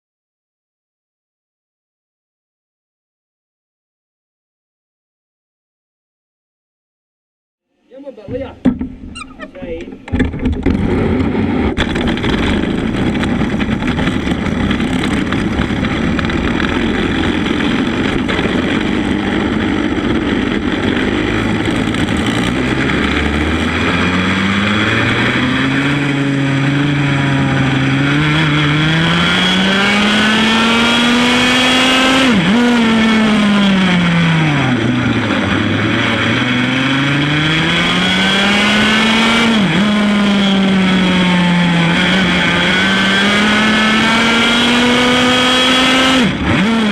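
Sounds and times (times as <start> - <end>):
kart engine revving: 9.0 - 46.9.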